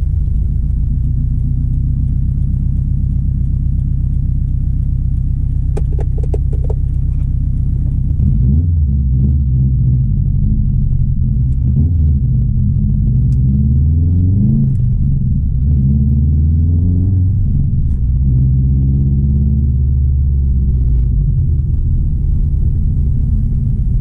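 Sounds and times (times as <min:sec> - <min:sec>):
car engine deep rumble revving: 0:00.0 - 0:24.0.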